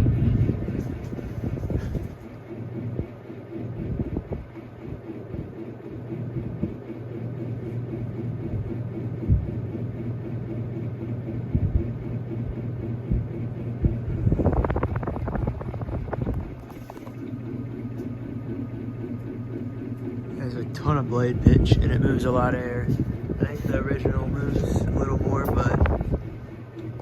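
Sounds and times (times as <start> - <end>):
ceiling fan humming and pulsing: 0.0 - 27.0
fan knocks and clicks: 0.0 - 27.0.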